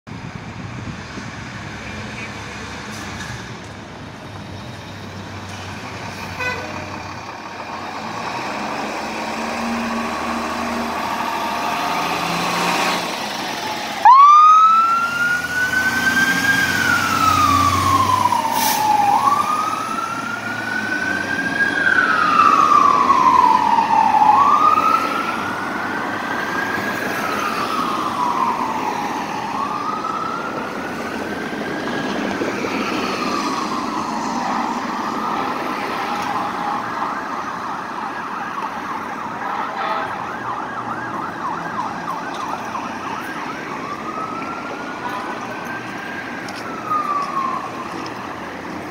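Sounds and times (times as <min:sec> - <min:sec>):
siren wailing: 0:08.5 - 0:48.9.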